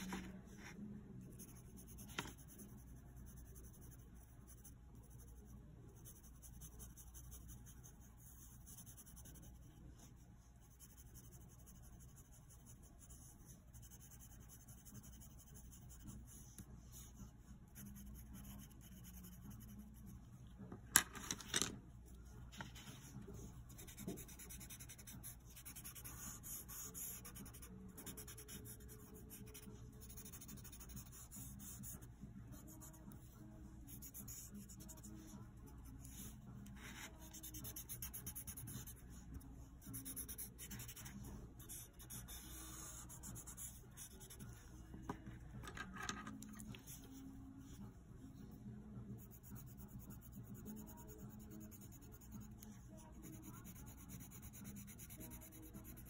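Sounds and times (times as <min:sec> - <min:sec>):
pencil scratching on paper: 0:00.0 - 0:20.5, 0:22.2 - 0:45.2, 0:49.2 - 0:56.0.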